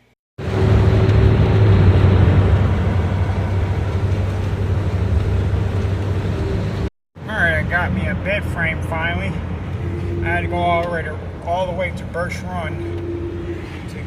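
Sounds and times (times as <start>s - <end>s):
car road and engine noise: 0.4s - 14.0s.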